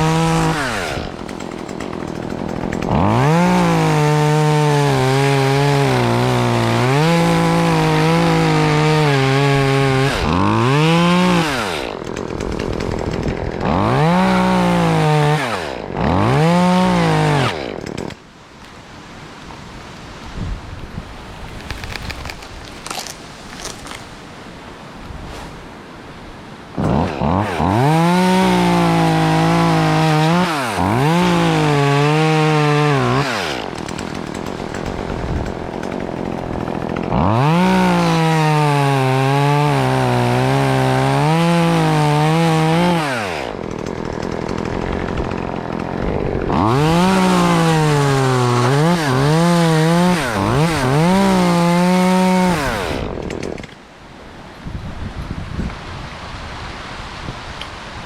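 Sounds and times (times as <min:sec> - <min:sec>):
chainsaw cutting at full throttle: 0:00.0 - 0:18.3, 0:21.6 - 0:24.0, 0:26.7 - 0:53.9.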